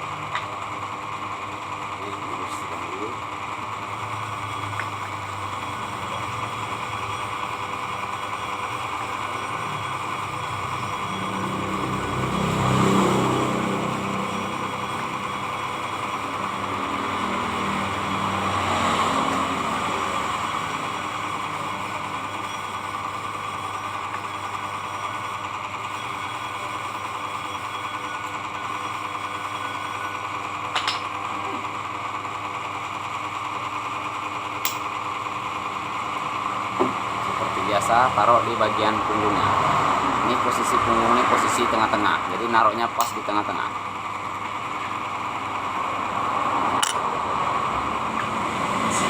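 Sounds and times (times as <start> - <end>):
small electric motor running: 0.0 - 49.0.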